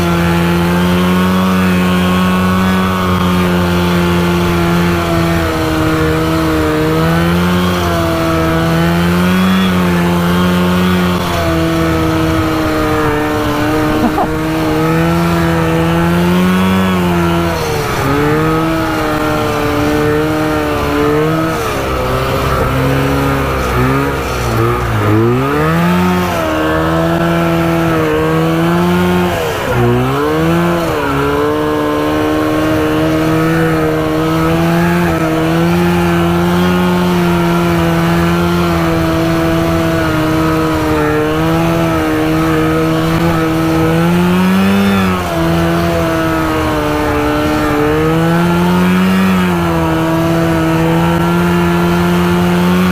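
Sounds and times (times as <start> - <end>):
two-stroke engine running: 0.0 - 52.9.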